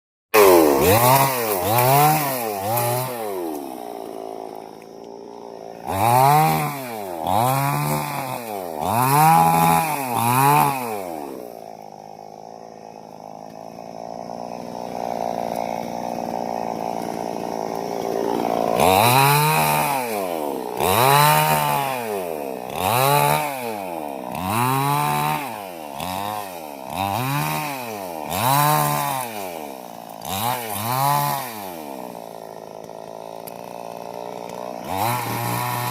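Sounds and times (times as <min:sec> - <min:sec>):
chainsaw engine revving: 0:00.4 - 0:35.9.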